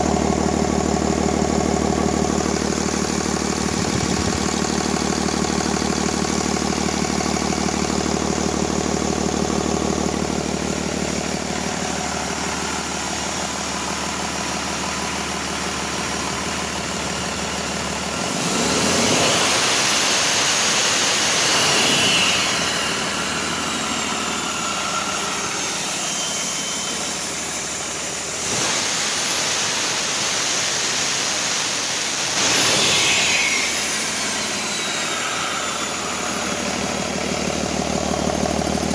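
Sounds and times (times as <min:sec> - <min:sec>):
diesel engine idling and revving: 0:00.0 - 0:38.9
high turbocharger whine: 0:00.0 - 0:38.9.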